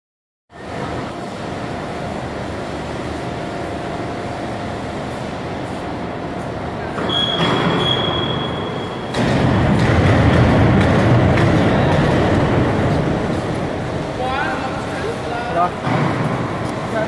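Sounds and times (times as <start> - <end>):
factory machinery running: 0.5 - 17.0.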